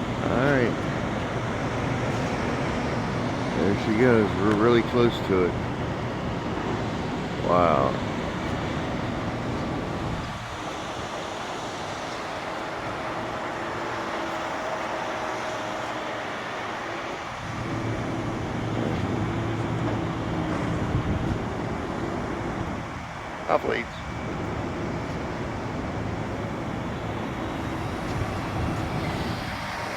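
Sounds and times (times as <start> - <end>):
crane diesel engine running: 0.0 - 29.9.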